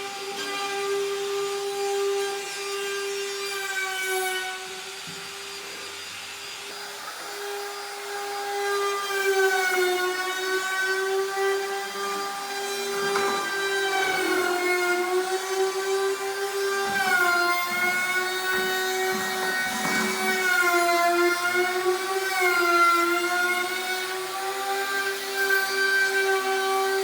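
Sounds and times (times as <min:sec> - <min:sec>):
power tool cutting wood: 0:00.0 - 0:27.0.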